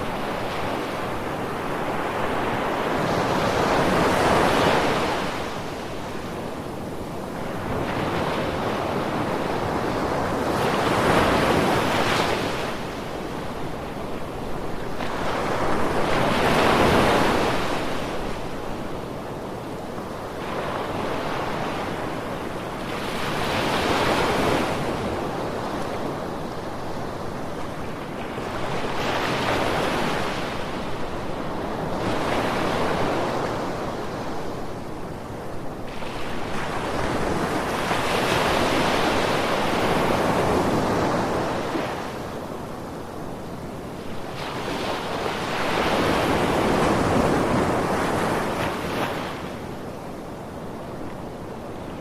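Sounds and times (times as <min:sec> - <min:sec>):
sea waves washing ashore: 0:00.0 - 0:52.0.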